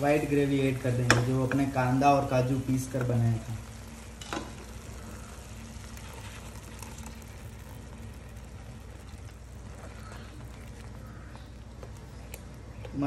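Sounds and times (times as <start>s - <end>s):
food sizzling in a pan: 0.0s - 13.0s
steady low hum: 0.0s - 13.0s.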